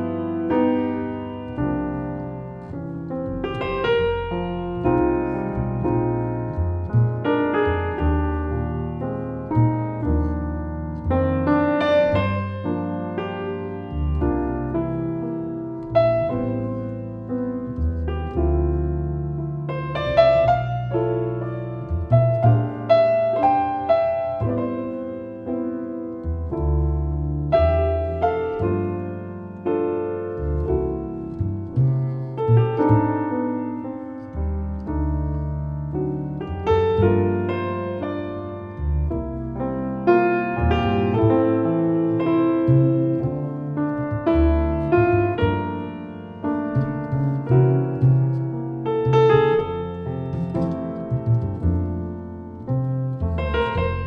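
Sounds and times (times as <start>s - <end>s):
acoustic piano: 0.0s - 54.0s
double bass notes: 0.0s - 54.0s.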